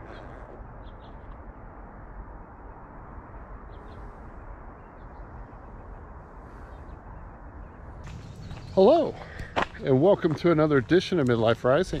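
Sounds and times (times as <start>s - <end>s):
low rushing ambience: 0.7s - 12.0s.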